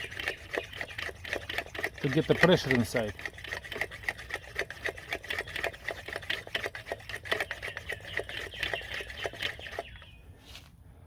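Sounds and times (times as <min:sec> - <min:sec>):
hand pump strokes: 0:00.0 - 0:10.1.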